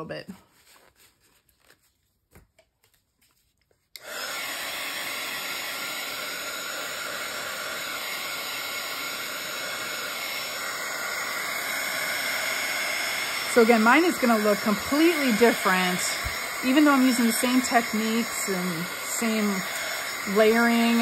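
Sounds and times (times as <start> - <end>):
heat gun blowing: 4.0 - 21.0.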